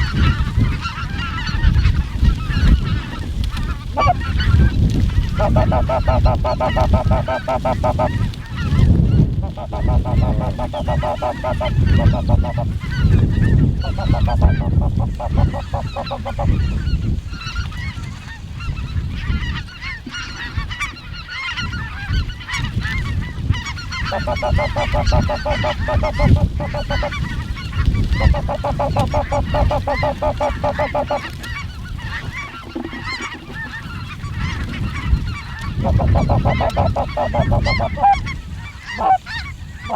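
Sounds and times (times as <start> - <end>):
snow geese honking: 0.0 - 39.9.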